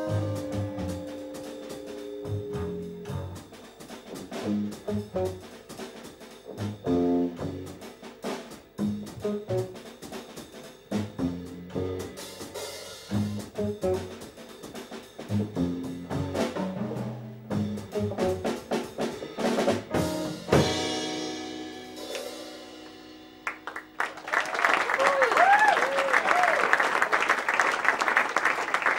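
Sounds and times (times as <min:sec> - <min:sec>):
jazz trio playing: 0:00.0 - 0:24.4.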